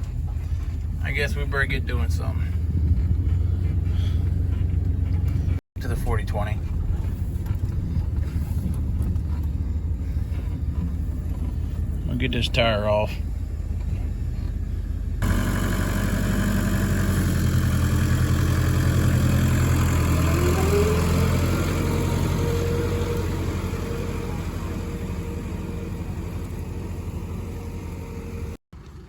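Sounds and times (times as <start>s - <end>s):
engine running with rapid throb: 0.0s - 29.0s.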